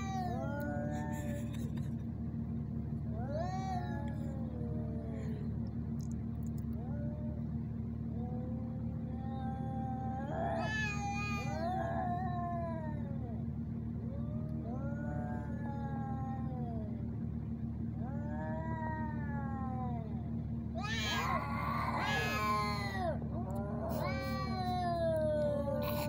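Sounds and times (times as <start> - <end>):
cats yowling: 0.0 - 2.1, 3.0 - 5.6, 6.6 - 26.0
steady low hum: 0.0 - 26.0.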